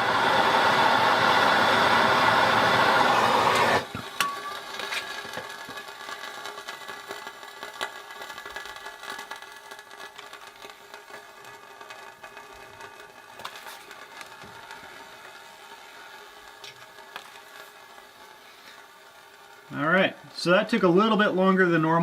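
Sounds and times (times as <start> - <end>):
gas torch flame hissing: 0.0 - 22.0.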